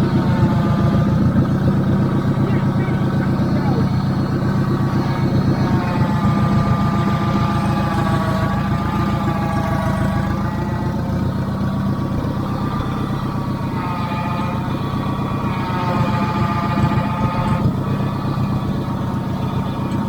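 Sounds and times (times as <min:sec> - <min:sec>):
heavy machine engine running: 0:00.0 - 0:20.0
wavering whine: 0:00.0 - 0:20.0.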